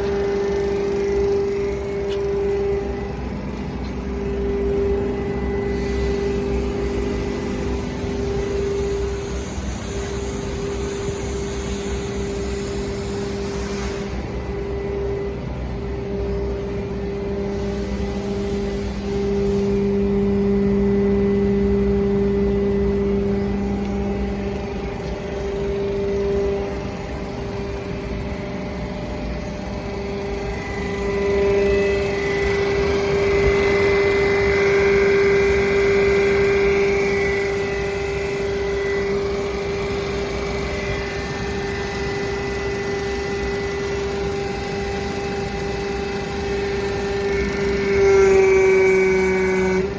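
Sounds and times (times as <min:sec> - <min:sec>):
hydraulic pump whine: 0:00.0 - 0:49.9.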